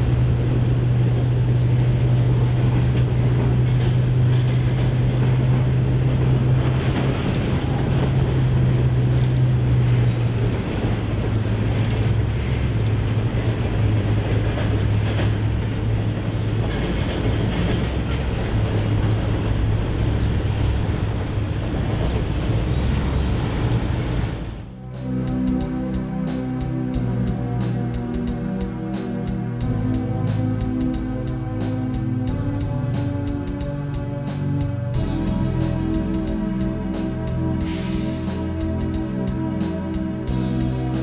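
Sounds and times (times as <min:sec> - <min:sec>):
low engine drone: 0:00.0 - 0:41.0.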